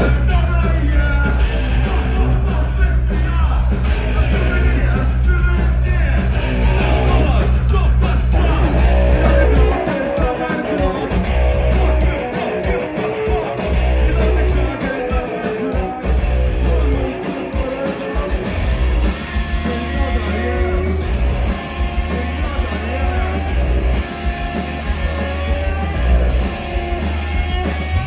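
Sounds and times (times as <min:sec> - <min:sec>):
person singing: 0:00.0 - 0:18.6, 0:19.5 - 0:28.0
bass: 0:00.0 - 0:28.0
drums: 0:00.0 - 0:28.0
electric guitar: 0:00.0 - 0:28.0.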